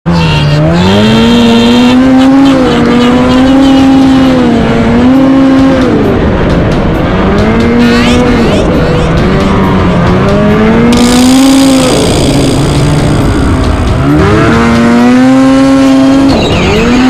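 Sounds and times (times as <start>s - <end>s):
snowmobile engine revving: 0.1s - 17.0s.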